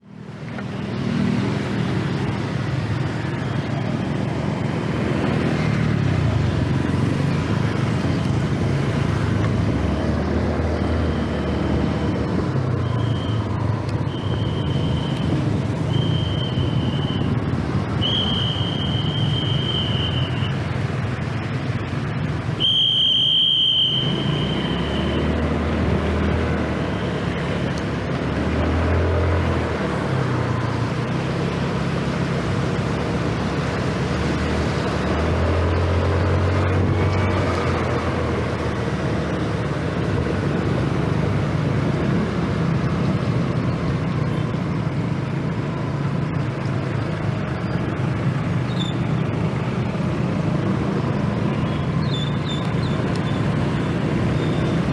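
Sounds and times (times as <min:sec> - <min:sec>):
wind and road noise: 0:00.0 - 0:54.9.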